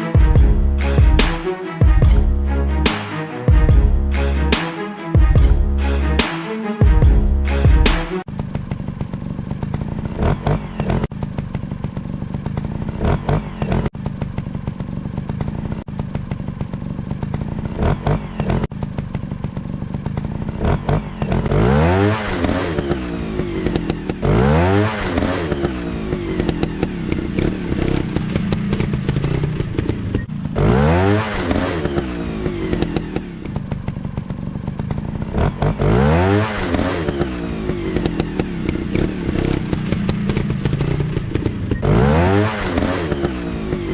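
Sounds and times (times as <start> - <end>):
dirt bike engines revving: 7.4 - 19.0, 19.6 - 34.2, 34.8 - 43.9.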